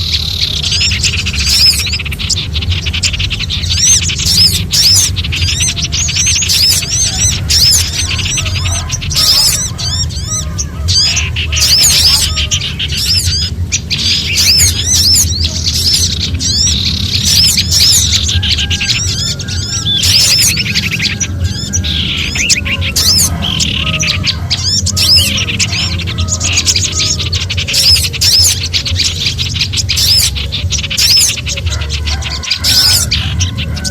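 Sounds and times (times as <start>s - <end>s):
small songbirds chattering: 0.0s - 33.9s
steady low hum: 0.0s - 33.9s.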